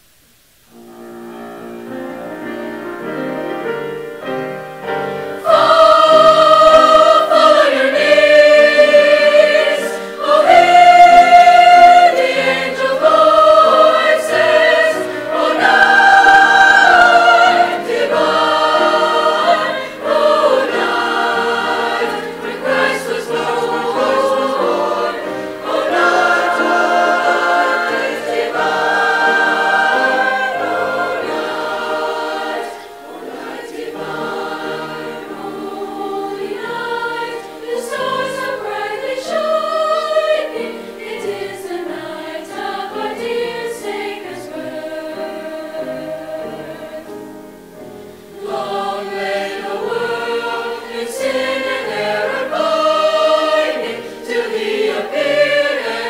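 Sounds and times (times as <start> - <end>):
grand piano accompaniment: 0.2 - 56.0
mixed choir singing: 4.8 - 56.0.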